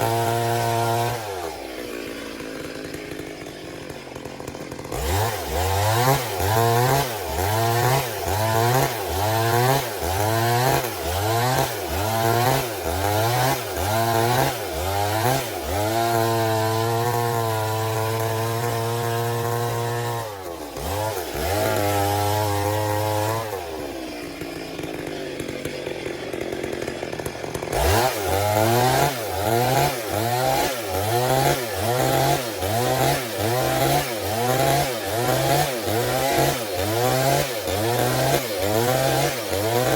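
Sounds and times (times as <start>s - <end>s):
chainsaw milling a log: 0.0s - 39.9s.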